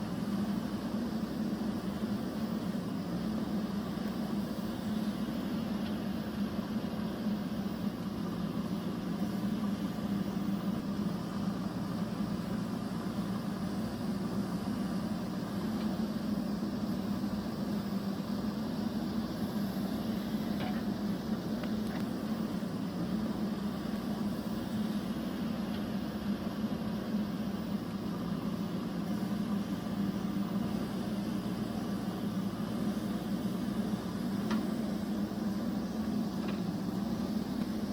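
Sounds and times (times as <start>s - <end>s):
steady machine hum: 0.0s - 37.9s.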